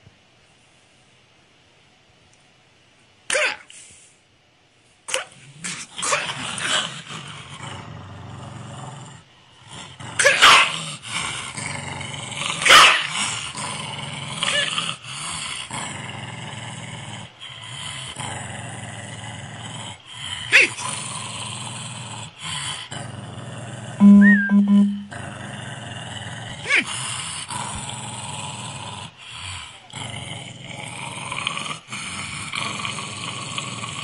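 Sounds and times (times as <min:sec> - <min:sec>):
dog growling: 0:05.5 - 0:24.0, 0:25.1 - 0:34.0.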